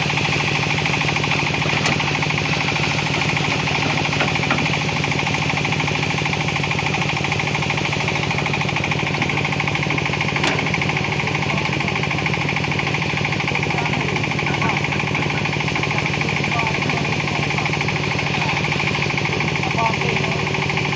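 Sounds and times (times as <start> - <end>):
excavator diesel engine pulsing: 0.0 - 20.9.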